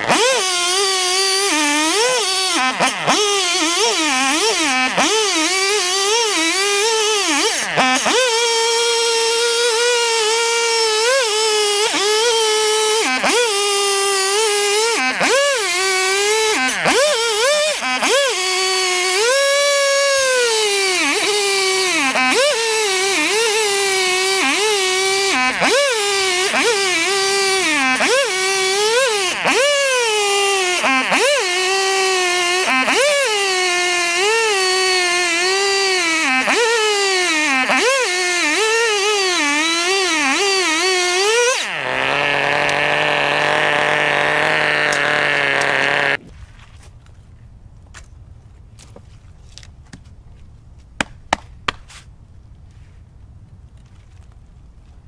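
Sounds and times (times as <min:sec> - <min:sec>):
chainsaw cutting through log: 0:00.0 - 0:46.3.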